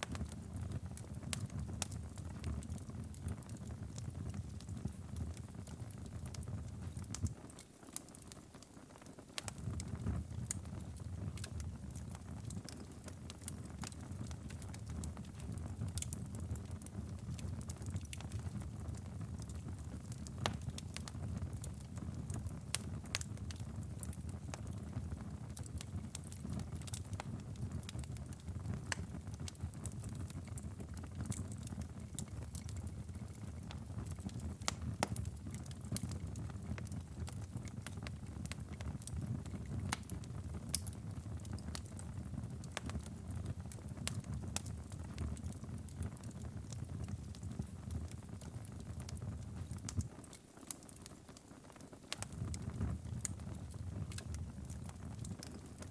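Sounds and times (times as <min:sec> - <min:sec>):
fire pops and snaps: 0:00.0 - 0:55.9
wood fire crackling: 0:00.0 - 0:55.9.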